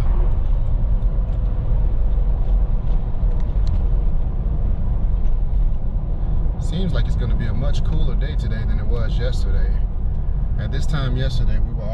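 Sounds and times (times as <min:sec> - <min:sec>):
car engine rumble: 0:00.0 - 0:11.9
road noise: 0:00.0 - 0:11.9.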